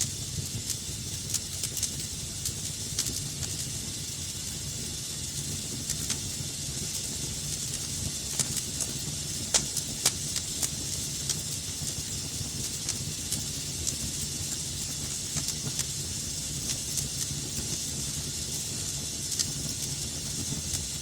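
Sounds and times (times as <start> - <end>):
fire crackles and pops: 0.0 - 21.0
fire hissing and rumbling: 0.0 - 21.0.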